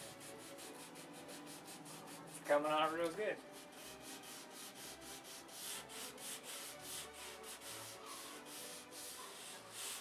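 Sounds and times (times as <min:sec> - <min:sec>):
sandpaper scraping on wood: 0:00.0 - 0:10.0.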